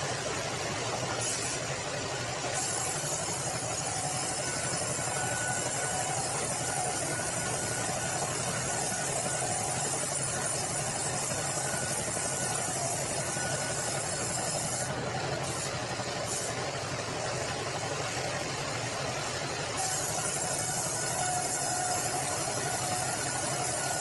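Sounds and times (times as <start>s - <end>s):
band saw and engine drone: 0.0s - 24.0s.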